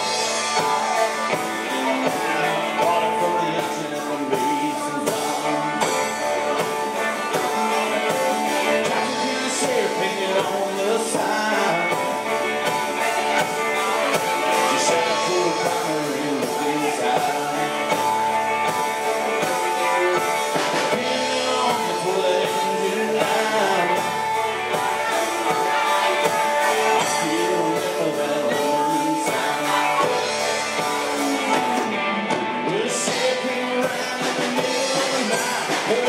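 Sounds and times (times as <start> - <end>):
country band playing: 0.0 - 36.0
person singing: 0.0 - 36.0.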